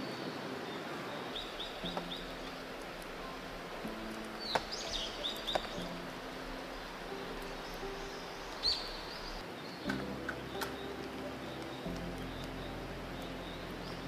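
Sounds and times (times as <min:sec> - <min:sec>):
small bird chirping: 0:00.0 - 0:14.0
steady hiss: 0:00.0 - 0:14.0.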